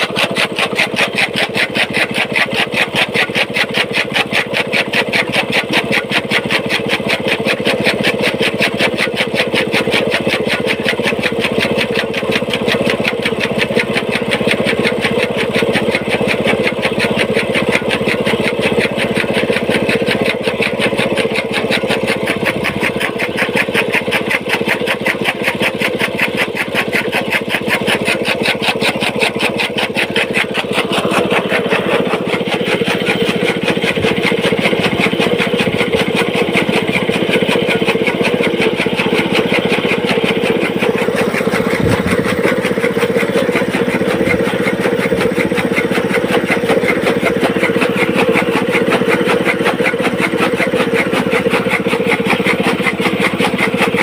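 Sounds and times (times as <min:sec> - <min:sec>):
chaff cutter blades chopping fodder: 0:00.0 - 0:54.0
small petrol engine running: 0:00.0 - 0:54.0.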